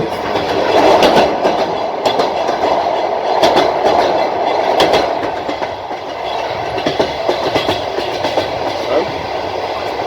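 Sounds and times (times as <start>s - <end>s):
train wheels rumbling on rail: 0.0s - 10.0s
wheels clacking over rail joints: 0.0s - 10.0s.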